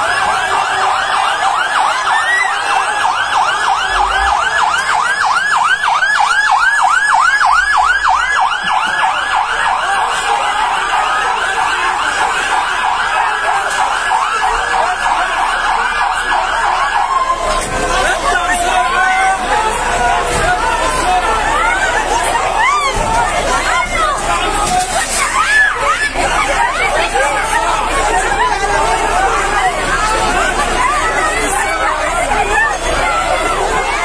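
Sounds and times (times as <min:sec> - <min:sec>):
fire engine siren yelping: 0:00.0 - 0:34.0.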